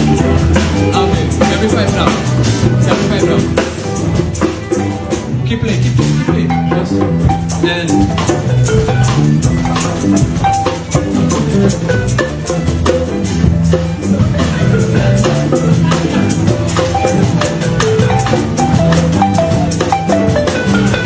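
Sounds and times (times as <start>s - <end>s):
band playing: 0.0s - 21.0s
melodic and bass notes: 0.0s - 21.0s
shakers and drums rhythm: 0.0s - 21.0s.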